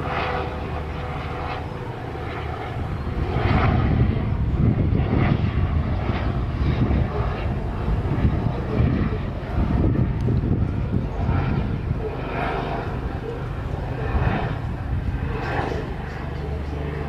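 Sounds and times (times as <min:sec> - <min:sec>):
helicopter engine and rotor: 0:00.0 - 0:17.0.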